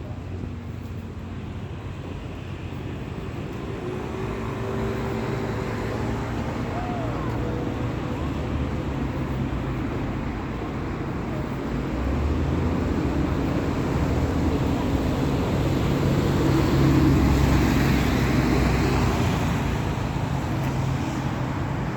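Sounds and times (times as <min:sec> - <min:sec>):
road traffic noise: 0:00.0 - 0:21.9.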